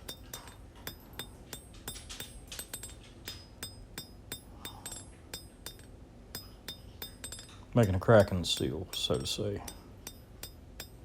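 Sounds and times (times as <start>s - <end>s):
hammer striking steel on anvil: 0.0s - 11.0s.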